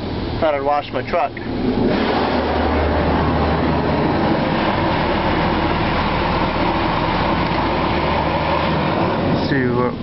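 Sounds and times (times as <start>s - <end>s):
machinery and engine hum: 0.0s - 10.0s
water jets spraying on truck: 0.0s - 10.0s.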